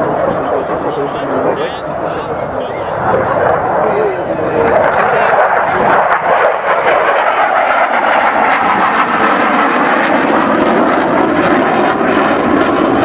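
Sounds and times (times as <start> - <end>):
airplane flying past: 0.0 - 13.0.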